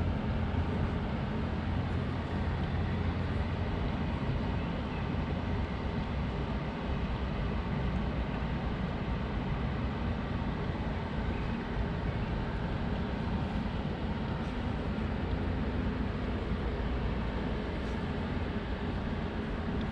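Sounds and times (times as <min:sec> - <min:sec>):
city background rumble: 0:00.0 - 0:19.9.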